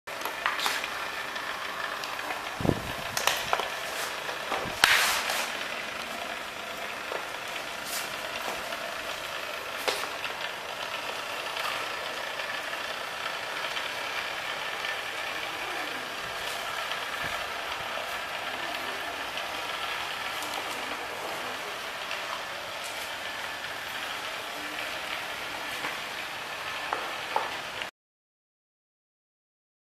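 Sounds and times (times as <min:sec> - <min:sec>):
welding machine running: 0:00.1 - 0:27.9.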